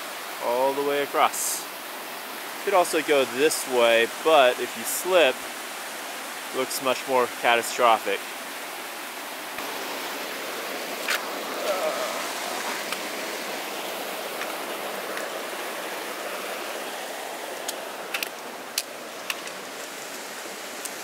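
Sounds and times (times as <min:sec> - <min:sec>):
creek rushing over waterfall: 0:00.0 - 0:21.0.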